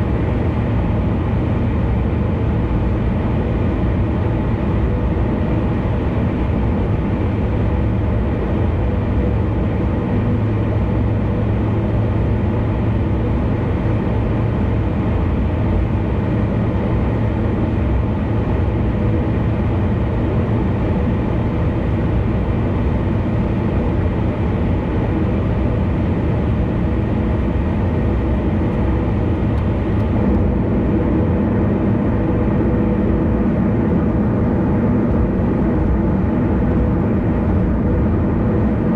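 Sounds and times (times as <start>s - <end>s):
car tyre and engine noise: 0.0s - 38.9s.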